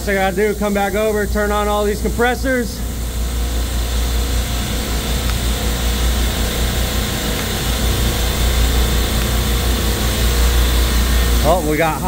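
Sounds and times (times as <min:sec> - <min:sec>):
refrigeration compressors humming: 0:00.0 - 0:12.0.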